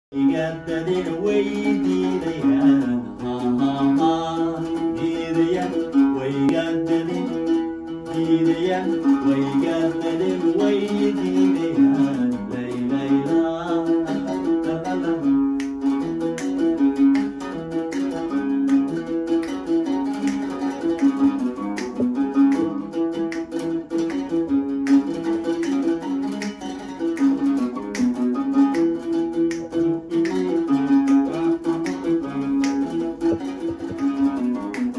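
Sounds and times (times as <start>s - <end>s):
oud plucked: 0.1s - 34.9s.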